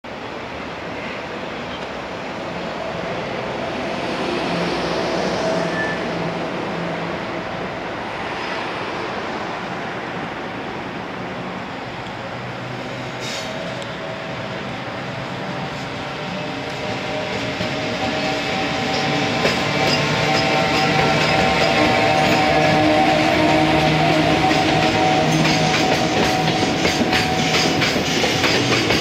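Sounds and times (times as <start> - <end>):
freight train running on rails: 0.0 - 29.0.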